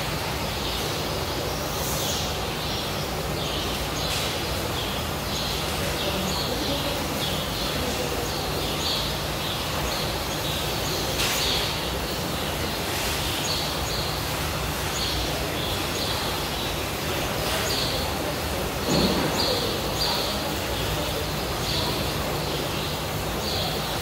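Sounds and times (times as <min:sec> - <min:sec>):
outdoor background hiss: 0:00.0 - 0:24.0
small birds chirping: 0:00.0 - 0:24.0.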